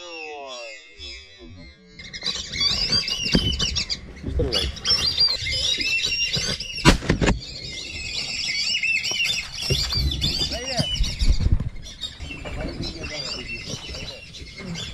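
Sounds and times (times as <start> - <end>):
whistling ducks calling: 0.0 - 14.9.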